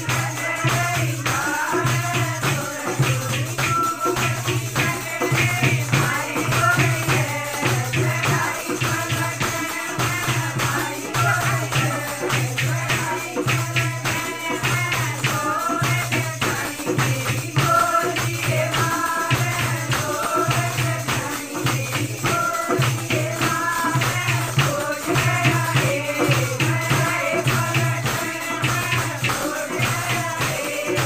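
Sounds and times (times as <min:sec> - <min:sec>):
jingling percussion: 0:00.0 - 0:31.0
rhythmic hand claps: 0:00.0 - 0:31.0
women singing together: 0:00.0 - 0:31.0.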